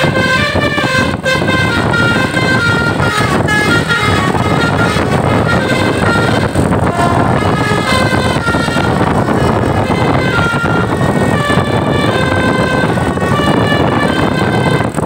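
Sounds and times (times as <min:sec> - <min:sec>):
loud background noise: 0:00.0 - 0:15.0
multi-tone bus air horn melody: 0:00.0 - 0:15.0.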